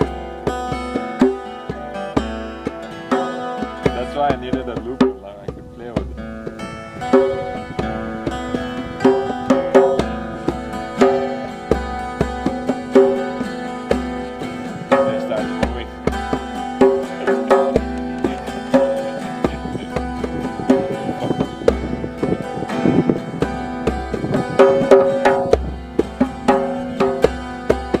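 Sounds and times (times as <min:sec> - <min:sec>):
acoustic guitar riff: 0:00.0 - 0:28.0
djembe played by hand: 0:00.0 - 0:28.0.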